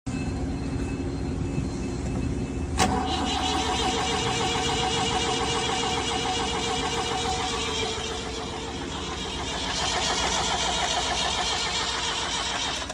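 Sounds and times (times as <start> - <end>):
diesel engine cranking and running: 0.2 - 12.9.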